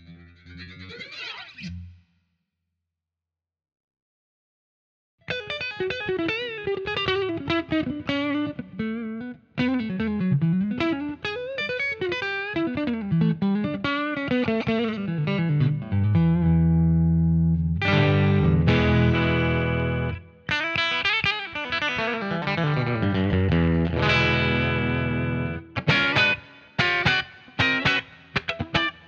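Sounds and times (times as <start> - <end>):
electric guitar lead with bends: 0.0 - 1.9, 5.3 - 29.0.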